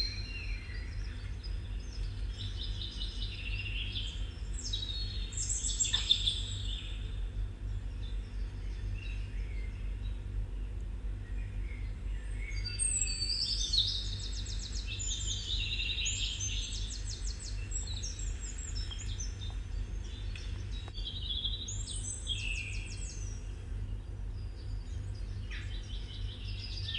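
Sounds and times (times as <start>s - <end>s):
small birds chirping: 0.0s - 26.9s
steady low hum: 0.0s - 26.9s.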